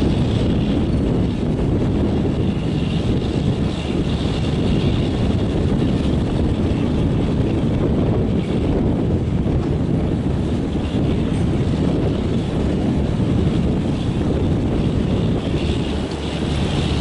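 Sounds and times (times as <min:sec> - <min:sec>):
train rumbling past: 0:00.0 - 0:17.0
wind buffeting microphone: 0:00.0 - 0:17.0.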